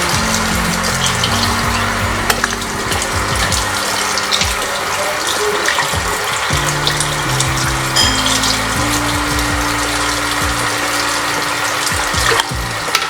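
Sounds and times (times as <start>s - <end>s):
running water: 0.0s - 13.0s
slow low background music: 0.0s - 13.0s.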